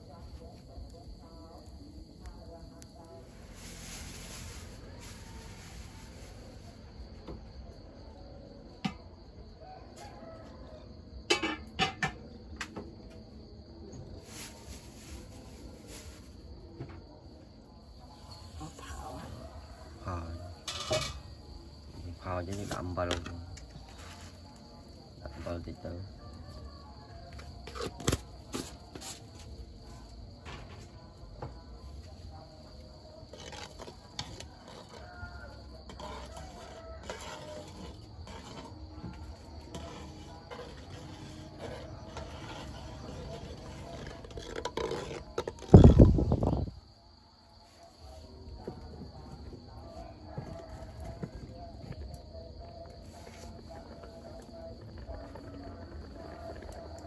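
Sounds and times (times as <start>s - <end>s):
faint insect hum: 0.0s - 57.0s.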